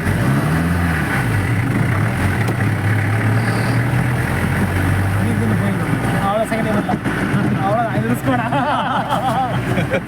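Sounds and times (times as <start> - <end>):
off-road vehicle engine running: 0.0 - 10.0.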